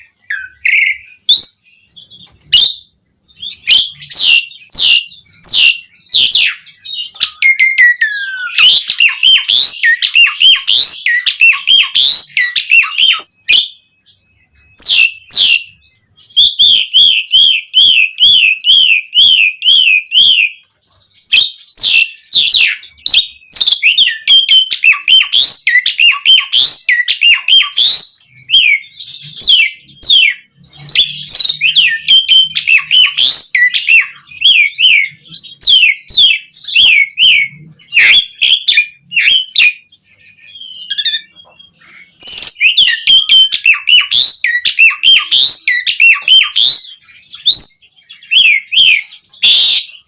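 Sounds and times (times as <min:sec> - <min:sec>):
starling chirping and whistling: 0:00.0 - 0:50.0.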